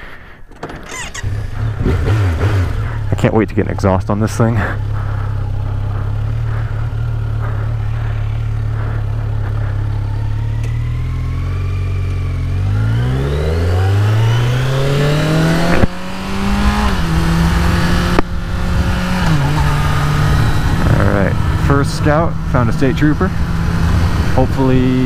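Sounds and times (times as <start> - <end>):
motorcycle engine idling and revving: 0.8 - 25.0.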